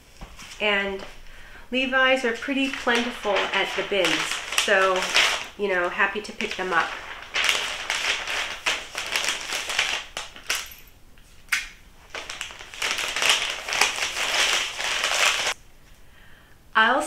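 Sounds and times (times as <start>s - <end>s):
paper crinkling and rustling: 1.8s - 15.6s.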